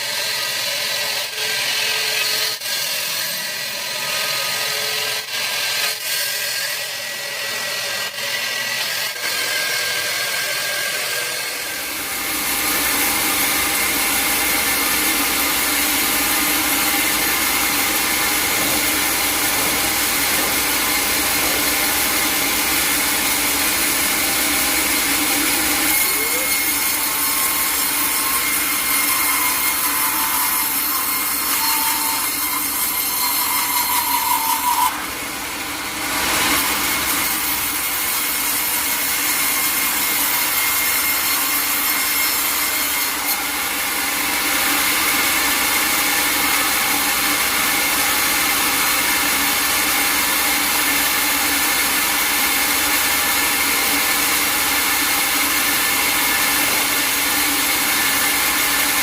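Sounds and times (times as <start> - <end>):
saw rasping through log: 0.0 - 59.0.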